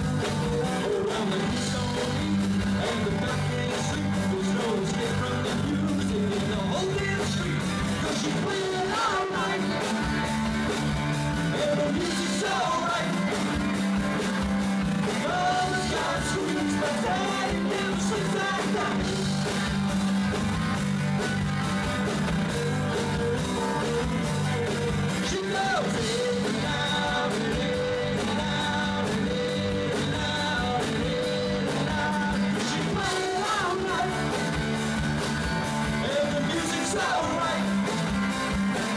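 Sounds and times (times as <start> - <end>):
person singing lead vocal: 0.0 - 10.3, 11.3 - 13.8, 15.0 - 19.6, 22.3 - 34.8, 35.8 - 38.0
electric guitar: 0.0 - 38.9.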